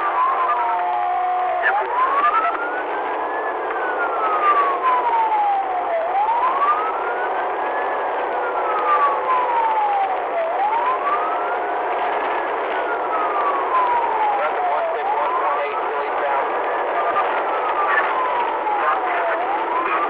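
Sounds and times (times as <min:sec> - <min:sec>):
police siren wailing: 0:00.0 - 0:20.0
road and engine noise: 0:00.0 - 0:20.0.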